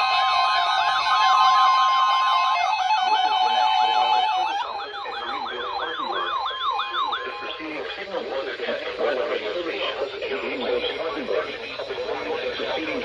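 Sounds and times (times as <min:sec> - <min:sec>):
steady alarm tone: 0:00.0 - 0:13.0
warbling alert sirens: 0:00.0 - 0:13.0.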